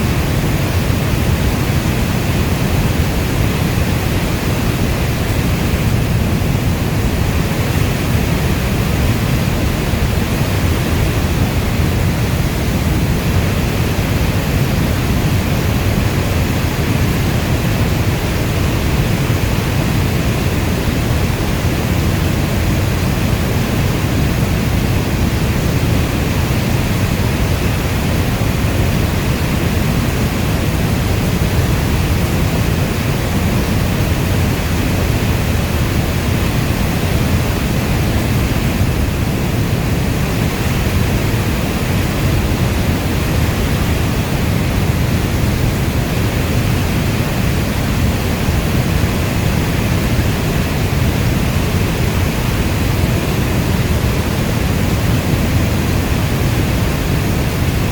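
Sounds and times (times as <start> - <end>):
heavy rainfall: 0.0 - 57.9.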